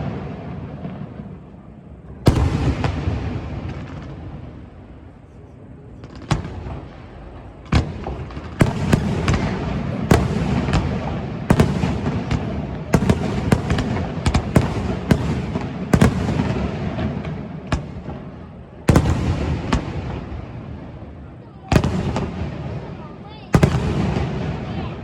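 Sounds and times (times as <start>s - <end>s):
fireworks bursting: 2.2s - 4.8s, 6.0s - 25.0s.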